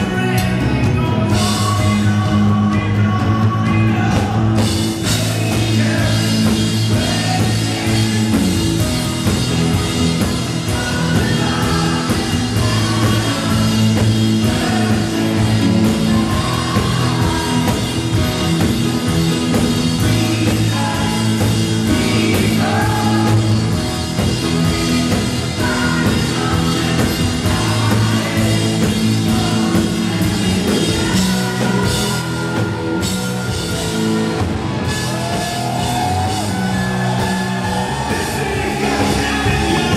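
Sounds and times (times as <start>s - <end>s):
drum kit: 0.0s - 39.9s
live rock band playing: 0.0s - 39.9s
person singing: 0.0s - 39.9s.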